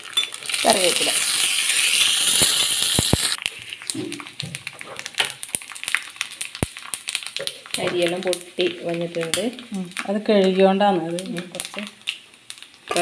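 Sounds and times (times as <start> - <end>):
leaves sizzling in hot oil: 0.0 - 13.0
oil crackling and popping: 0.0 - 13.0.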